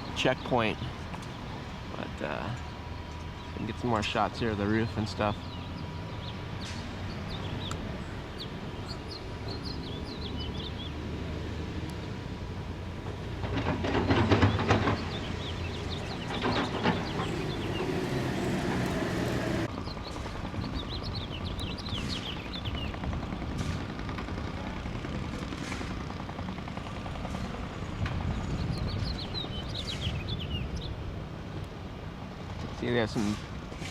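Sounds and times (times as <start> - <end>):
small birds chirping: 0.0 - 12.2, 13.8 - 23.7, 25.9 - 31.1
heavy vehicles clattering past: 0.0 - 33.9.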